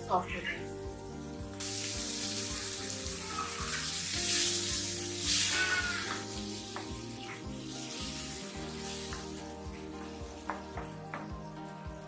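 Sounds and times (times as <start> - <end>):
water sizzling in hot pan: 0.0 - 11.0.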